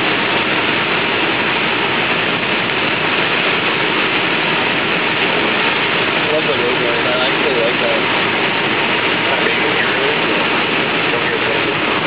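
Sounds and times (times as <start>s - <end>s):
tyres hissing on wet road: 0.0s - 12.0s
wind: 0.0s - 12.0s.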